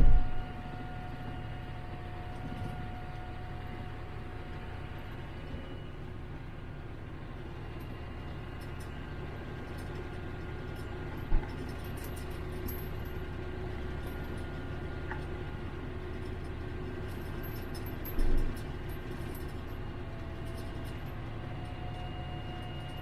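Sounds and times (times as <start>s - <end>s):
faint steady whine: 0.0s - 23.0s
tractor engine running: 0.0s - 23.0s.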